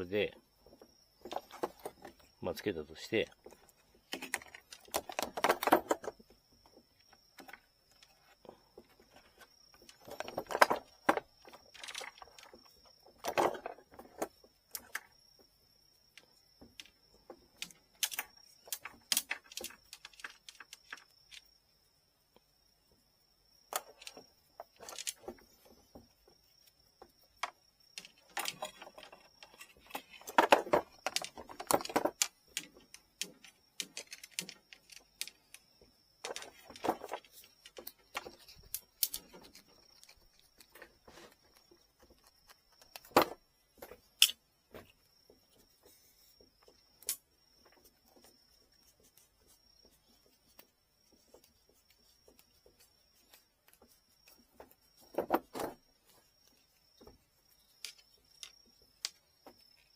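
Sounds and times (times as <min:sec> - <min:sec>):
clicks taps and rustling of hand work: 0:00.0 - 0:21.6, 0:23.7 - 0:59.9.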